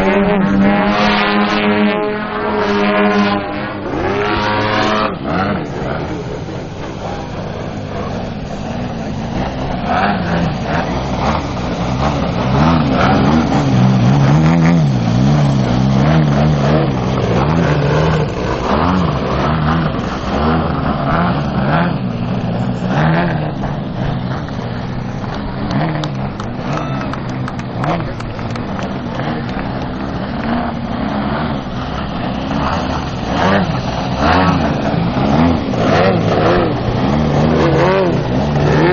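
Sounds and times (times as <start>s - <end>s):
model airplane engines: 0.0s - 38.9s.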